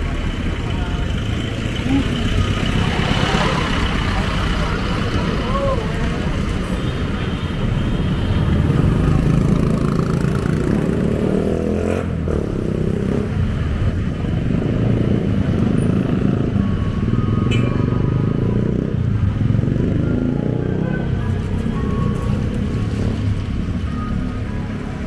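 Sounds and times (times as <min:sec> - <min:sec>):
vehicle engines passing: 0:00.0 - 0:25.0.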